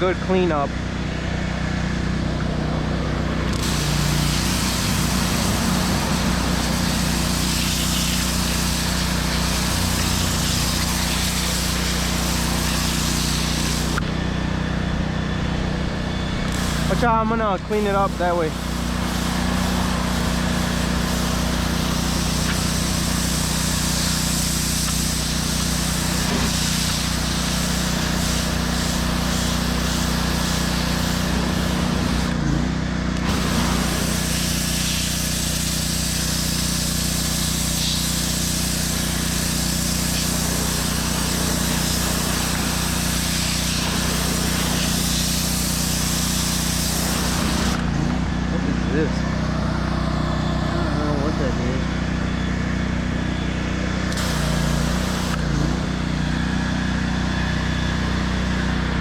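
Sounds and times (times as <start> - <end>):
pressure washer engine hum: 0.0 - 59.0
high-pressure water jet hissing: 3.4 - 14.3, 15.4 - 32.6, 33.2 - 51.8, 54.1 - 59.0.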